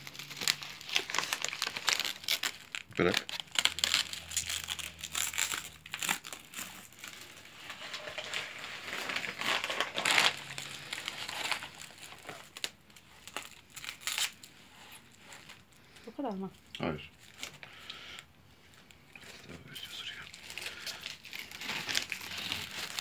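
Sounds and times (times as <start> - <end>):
plastic stretch film rustling: 0.0 - 23.0.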